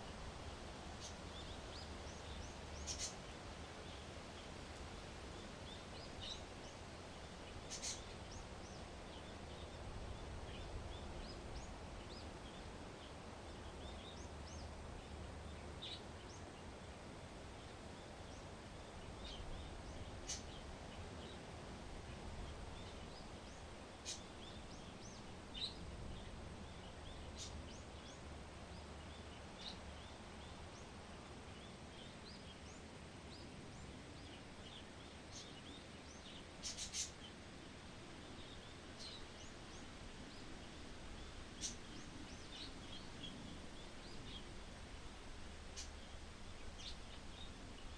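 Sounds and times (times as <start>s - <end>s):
low outdoor rumble: 0.0s - 47.9s
faint bird chirps: 1.0s - 4.5s, 5.4s - 15.2s, 18.0s - 21.4s, 22.4s - 30.9s, 33.4s - 37.4s, 38.2s - 47.9s.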